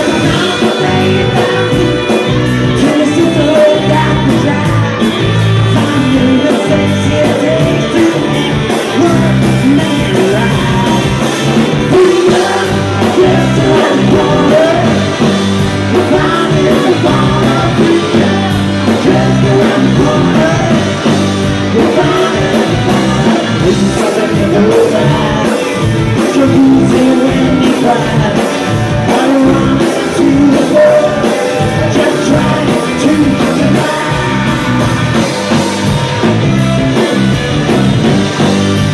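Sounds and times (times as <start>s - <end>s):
person singing: 0.0s - 35.4s
live rock band playing: 0.0s - 38.9s.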